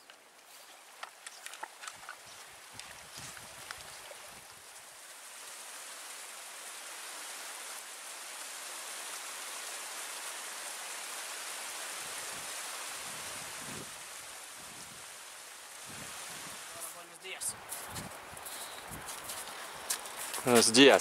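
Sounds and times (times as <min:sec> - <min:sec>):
rushing mountain stream: 0:00.0 - 0:21.0.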